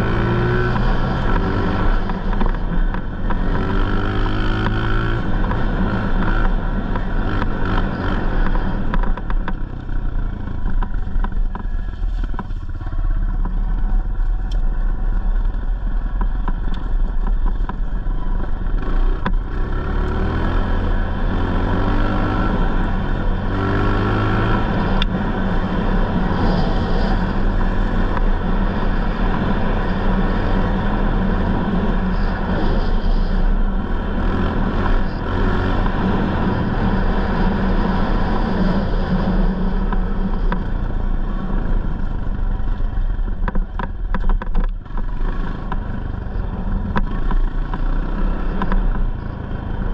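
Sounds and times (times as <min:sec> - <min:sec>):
dirt bike engine running: 0:00.0 - 0:49.9.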